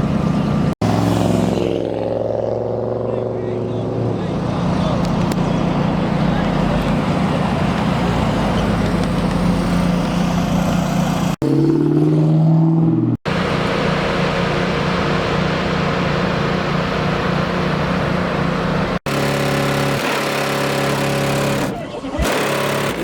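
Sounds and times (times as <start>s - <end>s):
car engines running: 0.0s - 23.0s.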